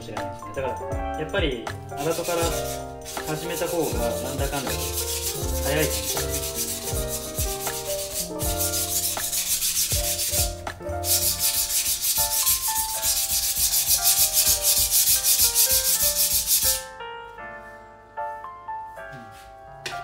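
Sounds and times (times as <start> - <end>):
background keyboard music: 0.0 - 20.0.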